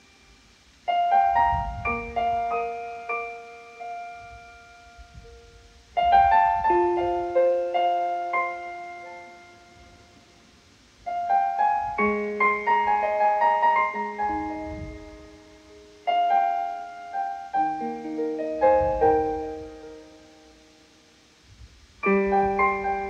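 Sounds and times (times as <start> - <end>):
piano notes and chords: 0.0 - 23.0.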